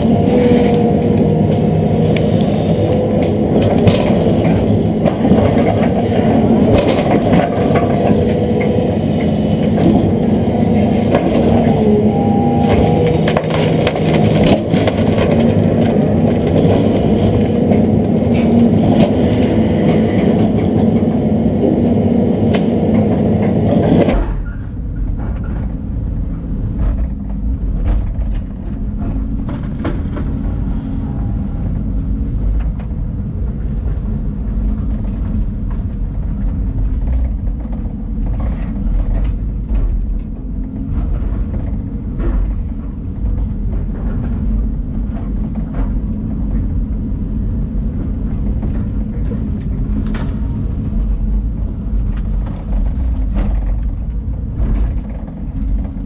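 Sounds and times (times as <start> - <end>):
excavator engine and hydraulics drone: 0.0 - 56.0.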